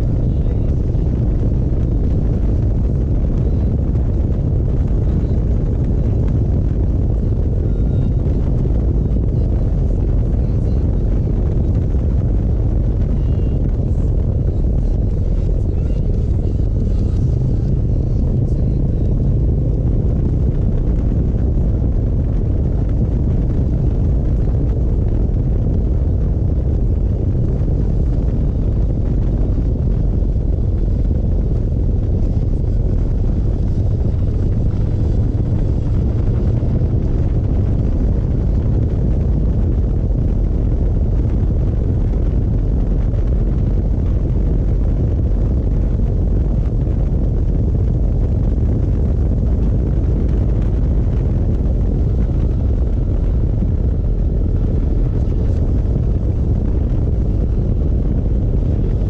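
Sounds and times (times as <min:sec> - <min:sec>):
motorcycle engine rumble: 0:00.0 - 0:59.0
wind buffeting on microphone: 0:00.0 - 0:59.0.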